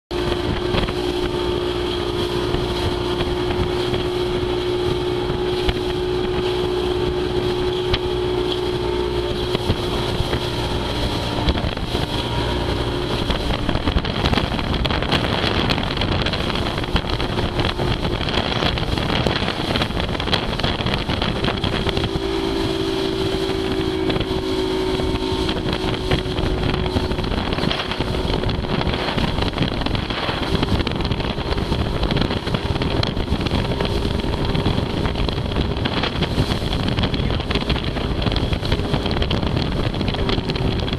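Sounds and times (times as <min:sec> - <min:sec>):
motorboat engine running: 0:00.0 - 0:40.9
rushing water: 0:00.1 - 0:40.9
wind on microphone: 0:00.1 - 0:40.9.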